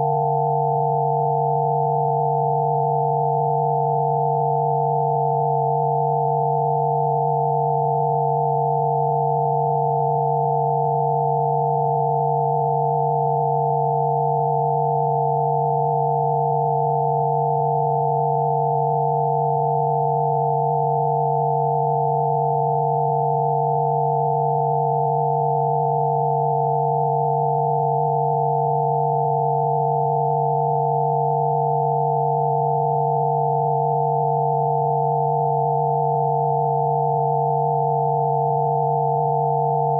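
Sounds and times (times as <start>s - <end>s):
steady sine tones: 0.0s - 39.9s.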